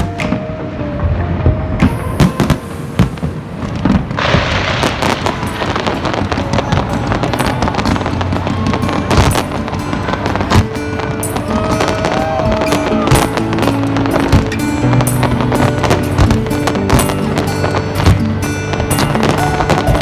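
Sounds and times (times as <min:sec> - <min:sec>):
background music: 0:00.0 - 0:20.0
fireworks bangs: 0:00.0 - 0:20.0
fireworks crackling: 0:00.0 - 0:20.0.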